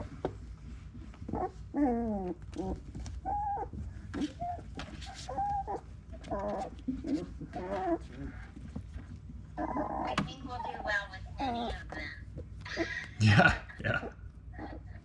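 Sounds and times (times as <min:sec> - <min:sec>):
puppies whining and squeaking: 0:00.0 - 0:12.0, 0:14.5 - 0:15.0.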